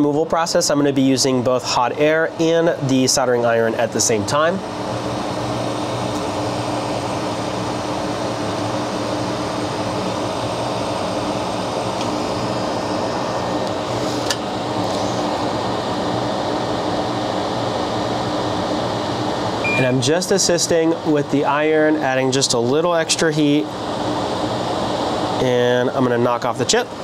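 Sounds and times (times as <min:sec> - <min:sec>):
hot air station blowing air: 0:00.0 - 0:27.0.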